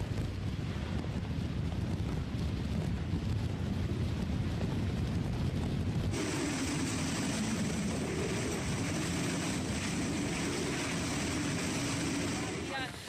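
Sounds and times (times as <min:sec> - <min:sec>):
strong wind and driving rain: 0:00.0 - 0:13.0.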